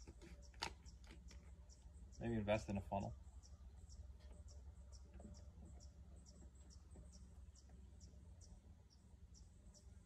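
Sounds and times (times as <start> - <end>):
faint high bird chirps: 0.0 - 10.0.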